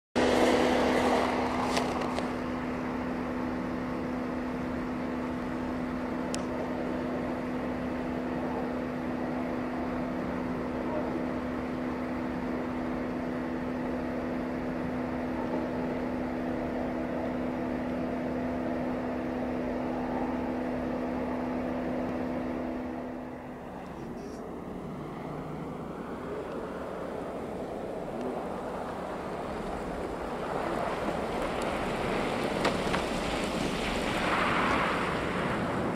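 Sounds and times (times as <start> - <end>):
engine running hum: 0.2 - 35.9.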